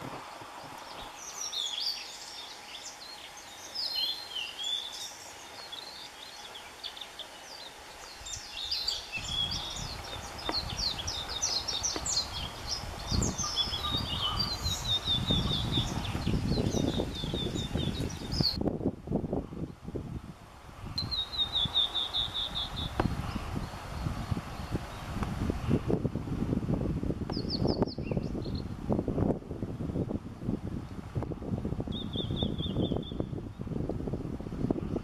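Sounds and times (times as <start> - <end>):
songbird singing: 0.0 - 18.9, 20.9 - 25.5, 27.2 - 28.9, 29.7 - 34.3.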